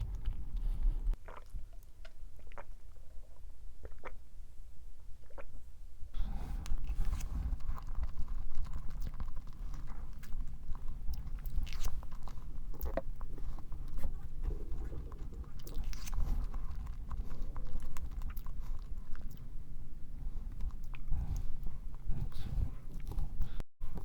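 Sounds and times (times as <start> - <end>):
person chewing cake: 0.0 - 1.6, 6.2 - 24.0
wet mouth sounds: 0.0 - 3.2, 3.8 - 4.2, 6.2 - 24.0.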